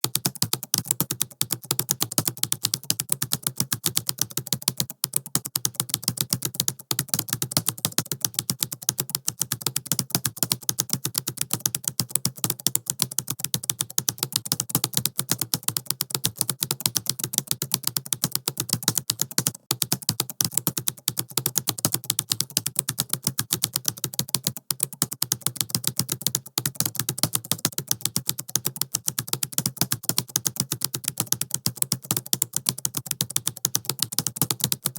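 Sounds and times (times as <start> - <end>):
fast typing on laptop keyboard: 0.0 - 34.9.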